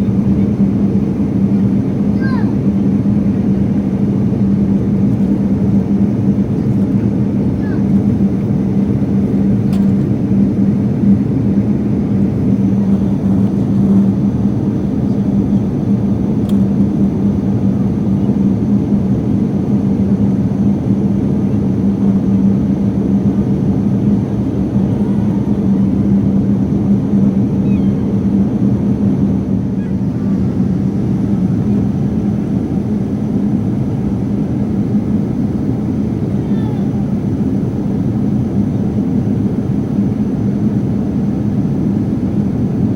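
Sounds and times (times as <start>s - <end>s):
airliner cabin engine noise: 0.0s - 42.9s
constant low hum: 0.0s - 42.9s.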